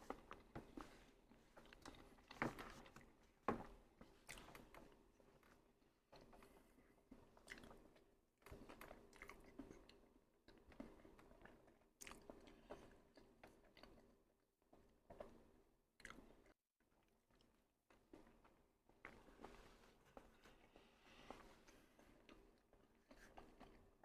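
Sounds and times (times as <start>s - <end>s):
person chewing food: 1.5s - 3.2s, 4.2s - 19.5s, 20.2s - 24.0s.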